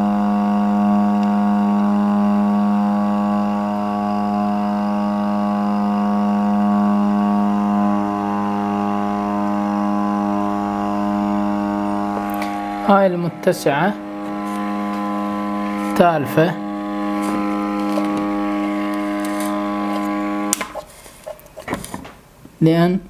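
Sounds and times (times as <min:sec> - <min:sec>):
amplifier buzzing hum: 0:00.0 - 0:22.6.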